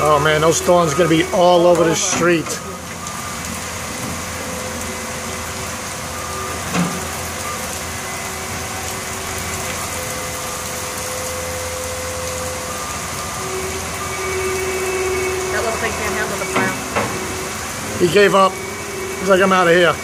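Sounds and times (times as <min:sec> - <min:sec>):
diesel engines running: 0:00.0 - 0:20.0
rain hissing: 0:00.0 - 0:20.0.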